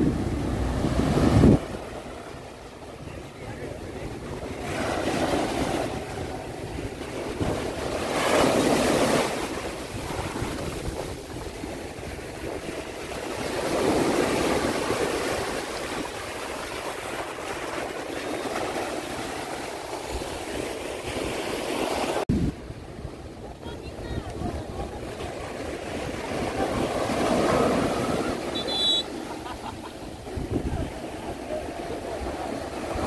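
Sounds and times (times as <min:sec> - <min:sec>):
waves breaking on sandy shore: 0:00.0 - 0:33.0.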